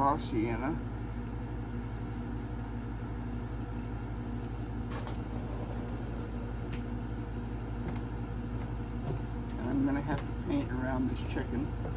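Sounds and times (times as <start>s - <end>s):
low mechanical hum: 0.0s - 11.9s.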